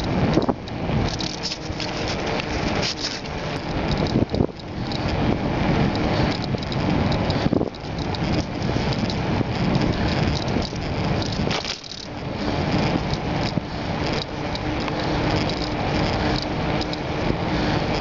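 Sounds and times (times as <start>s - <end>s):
bicycle tyre noise: 0.0s - 18.0s
bike rattling and clicking: 0.0s - 18.0s
faint steady hum: 0.0s - 18.0s
wind rush over microphone: 0.0s - 18.0s.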